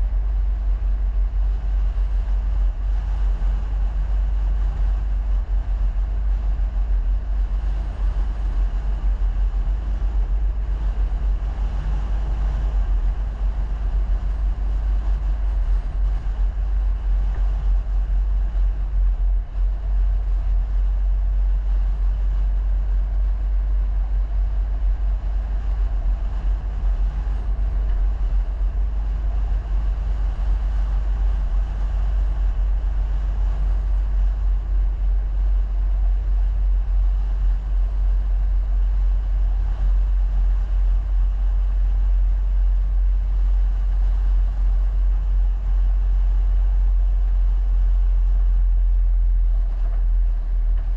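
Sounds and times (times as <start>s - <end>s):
vehicle rumble: 0.0s - 50.9s.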